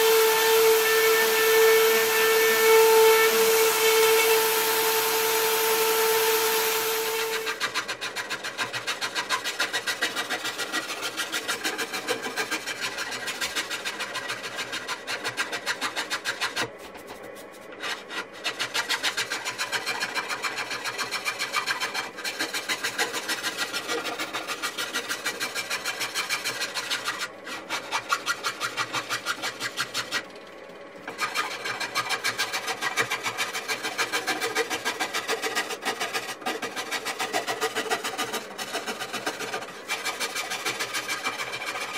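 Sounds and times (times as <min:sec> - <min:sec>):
rasp scraping wood: 0:00.0 - 0:30.3, 0:31.1 - 0:41.9.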